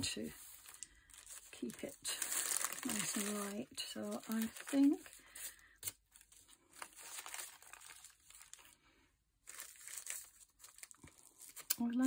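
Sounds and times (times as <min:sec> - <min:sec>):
tissue paper rustling: 0:00.0 - 0:08.8, 0:09.4 - 0:11.6.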